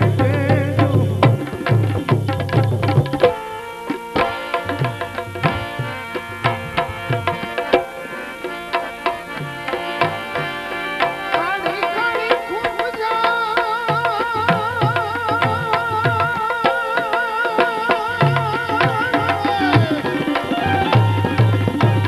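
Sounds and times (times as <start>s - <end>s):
tabla strokes: 0.0s - 22.0s.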